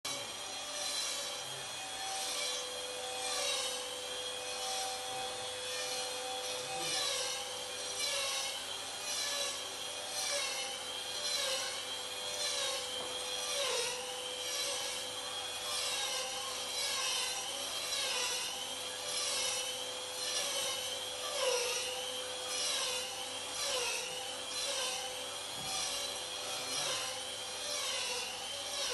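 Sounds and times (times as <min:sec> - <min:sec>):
electric rug trimmer motor: 0:00.1 - 0:28.9.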